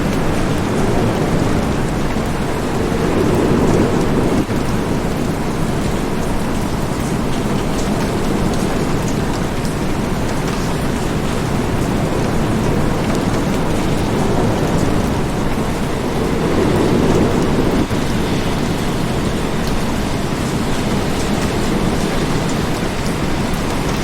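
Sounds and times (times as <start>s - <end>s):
low thunder rumble: 0.0s - 24.0s
steady rain: 0.0s - 24.0s.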